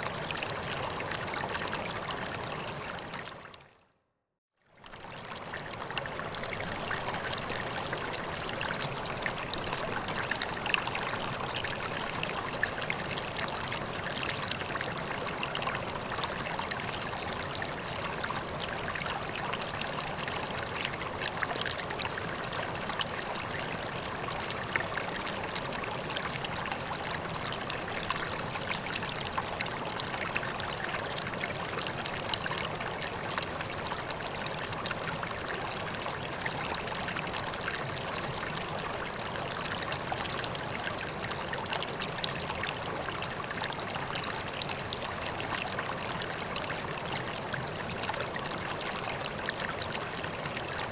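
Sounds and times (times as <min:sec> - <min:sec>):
pond water trickling and splashing: 0:00.0 - 0:03.8, 0:04.6 - 0:50.9.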